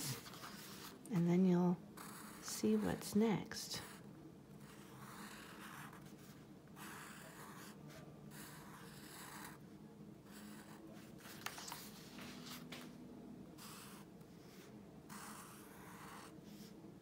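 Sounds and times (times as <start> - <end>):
marker drawing on paper: 0.0 - 4.0, 4.6 - 9.6, 10.3 - 12.8, 13.6 - 16.8.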